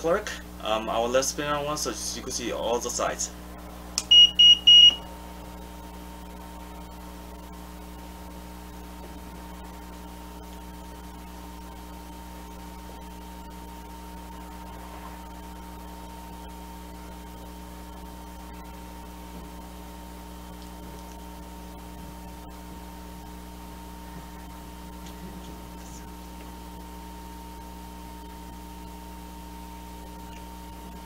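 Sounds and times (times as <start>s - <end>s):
turntable motor hum and whine: 0.0s - 31.0s.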